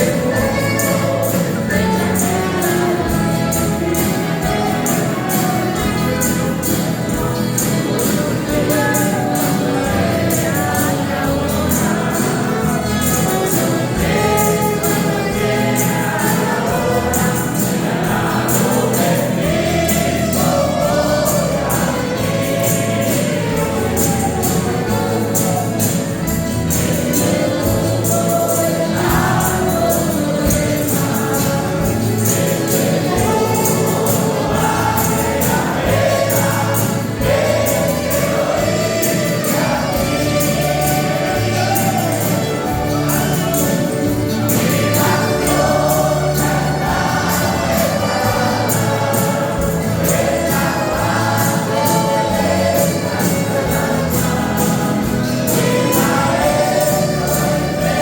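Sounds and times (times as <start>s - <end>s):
instrumental backing with bass line: 0.0s - 58.0s
men's group singing gospel: 0.0s - 58.0s.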